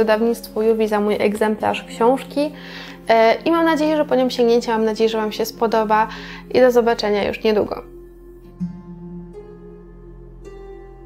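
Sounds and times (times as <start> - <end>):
soft plucked background music: 0.0 - 11.0.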